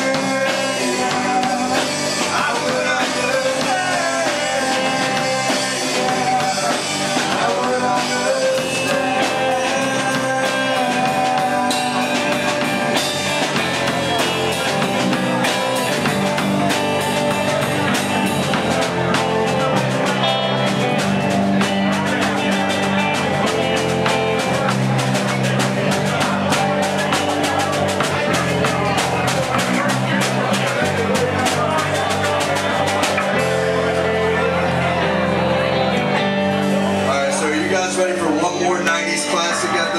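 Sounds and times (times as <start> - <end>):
person singing: 0.0 - 39.9
rock band playing live: 0.0 - 39.9.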